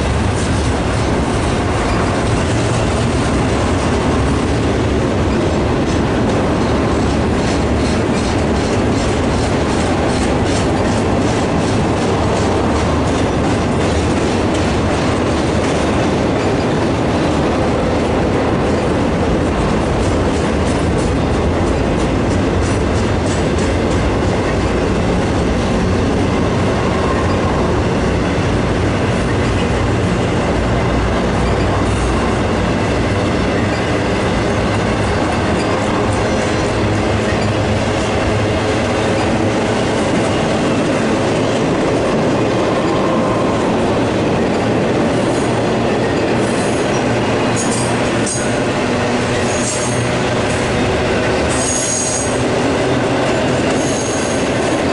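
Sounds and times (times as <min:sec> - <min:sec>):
freight train cars rolling past: 0:00.0 - 0:54.9
wheels clicking on rail: 0:00.0 - 0:54.9.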